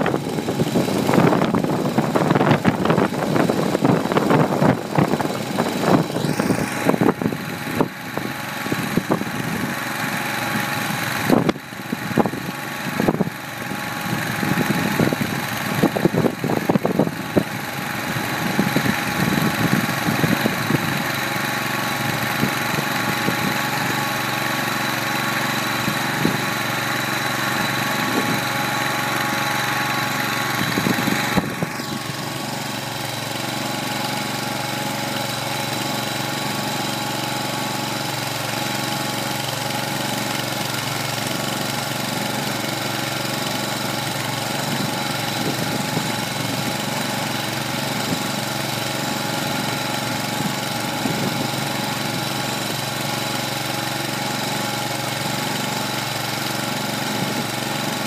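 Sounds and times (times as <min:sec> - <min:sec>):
gas engine running steadily: 0:00.0 - 0:58.0.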